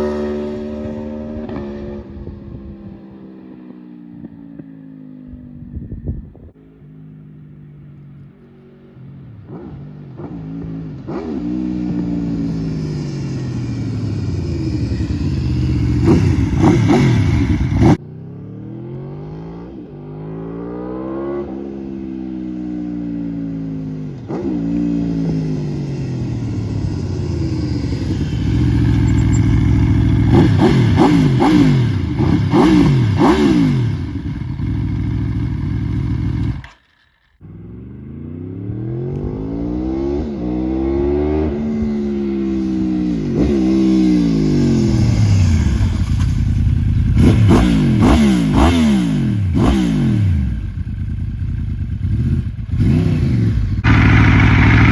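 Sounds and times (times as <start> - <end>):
motorcycle engine revving: 0.0 - 5.2, 6.6 - 54.9.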